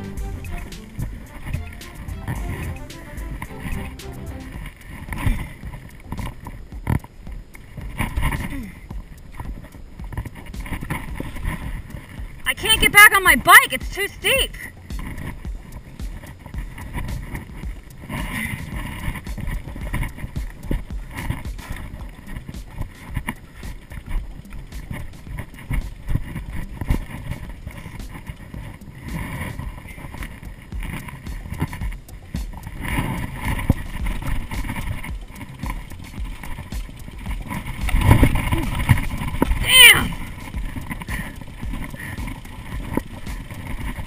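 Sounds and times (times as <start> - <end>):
bike knocks and rattles: 5.3 - 12.5, 14.9 - 39.7, 40.3 - 44.0.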